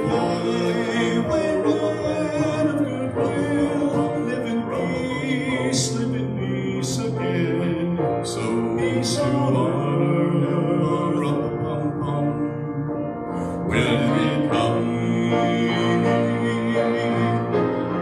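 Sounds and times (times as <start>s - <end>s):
man singing into a microphone: 0.0s - 18.0s
piano accompaniment: 0.0s - 18.0s.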